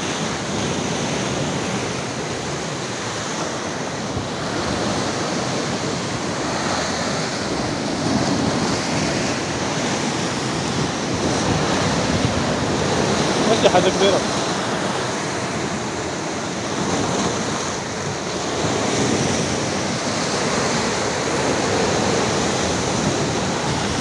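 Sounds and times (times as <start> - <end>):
sea waves breaking on rocks: 0.0 - 24.0.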